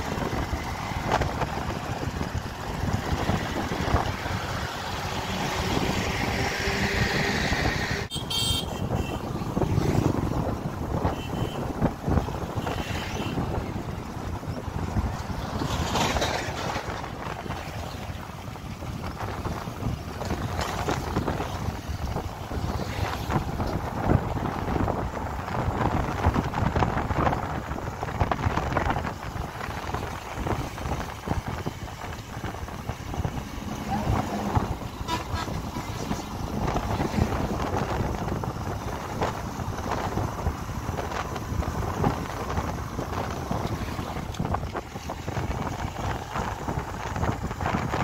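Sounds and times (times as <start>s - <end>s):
wind buffeting microphone: 0.0s - 8.1s, 8.7s - 48.0s
road noise: 0.0s - 48.0s
vehicle rumble: 0.0s - 48.0s.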